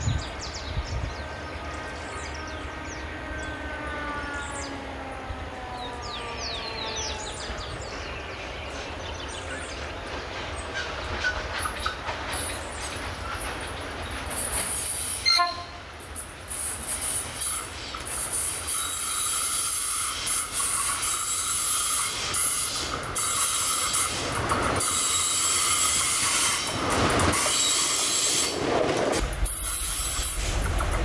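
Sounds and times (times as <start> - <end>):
diesel freight train passing: 0.0 - 31.0
wheels squealing on rails: 2.0 - 31.0.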